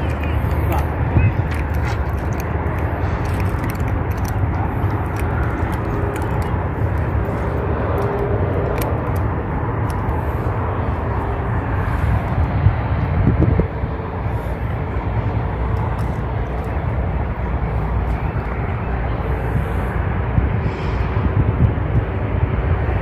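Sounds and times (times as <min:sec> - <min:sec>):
low outdoor rumble: 0:00.0 - 0:23.0.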